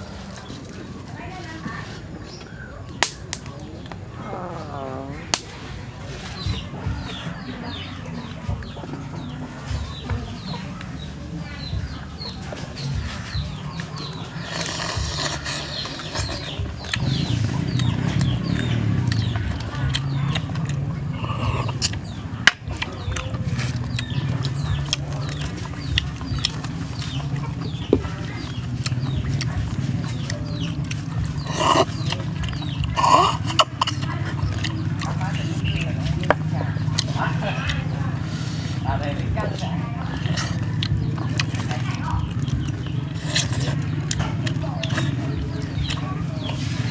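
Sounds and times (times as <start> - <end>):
birds cheeping: 0.0 - 46.9
chicks peeping: 0.0 - 46.9
steady low rumble: 2.1 - 46.9.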